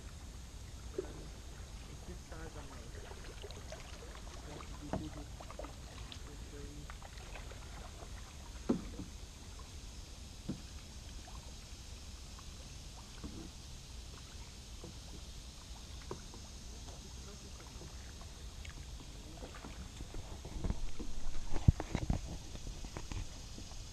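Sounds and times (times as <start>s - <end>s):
paddle dipping and dripping: 0.0s - 23.9s.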